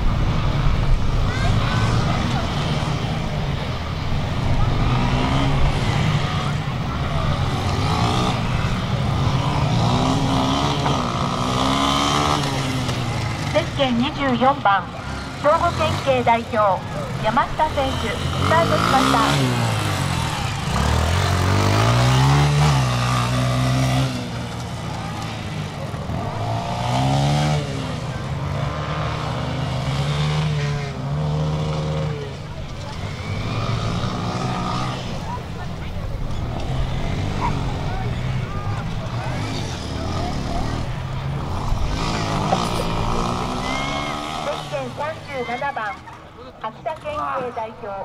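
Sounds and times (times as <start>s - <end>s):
engine throttle blips: 0.0s - 47.8s
dirt bike engines idling: 0.0s - 48.0s.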